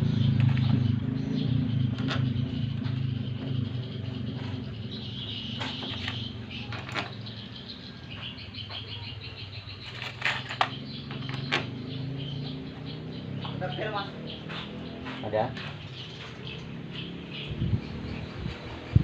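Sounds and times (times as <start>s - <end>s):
high chirping: 0.0s - 19.0s.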